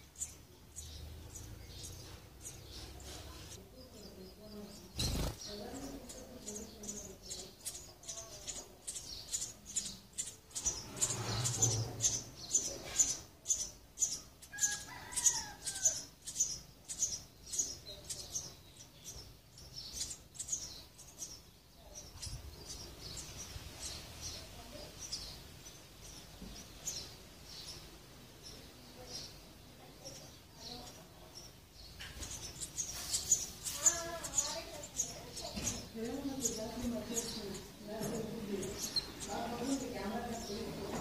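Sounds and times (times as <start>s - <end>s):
nestlings begging with high chirps: 0.0s - 41.0s.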